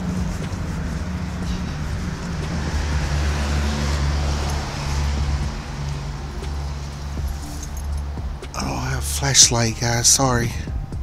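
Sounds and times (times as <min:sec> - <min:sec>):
car engine running: 0:00.0 - 0:11.0
road noise rushing: 0:00.0 - 0:11.0.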